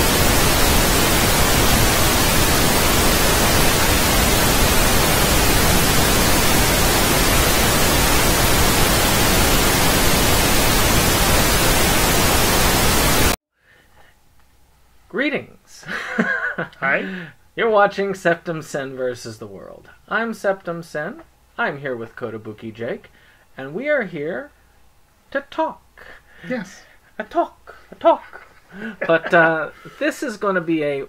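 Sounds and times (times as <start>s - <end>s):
television static hiss: 0.0s - 13.4s, 14.1s - 31.0s.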